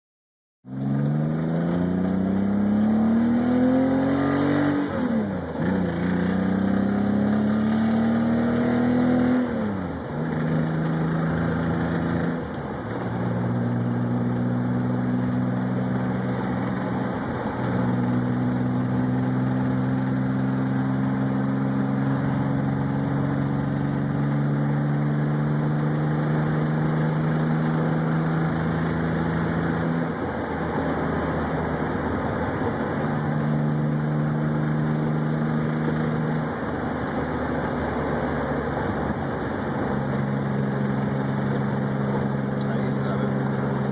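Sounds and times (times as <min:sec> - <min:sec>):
car engine accelerating through gears: 0:00.7 - 0:43.9.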